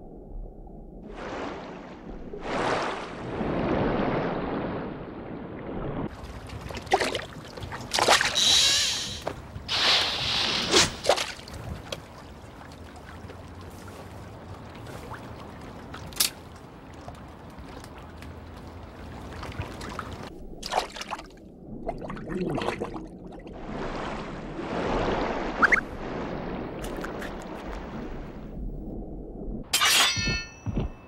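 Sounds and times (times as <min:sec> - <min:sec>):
water trickling and sloshing: 0:00.9 - 0:31.0.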